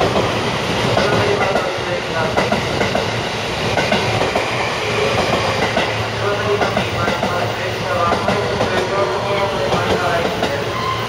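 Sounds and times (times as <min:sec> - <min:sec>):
train running noise: 0:00.0 - 0:11.0
train wheels clacking: 0:00.0 - 0:11.0.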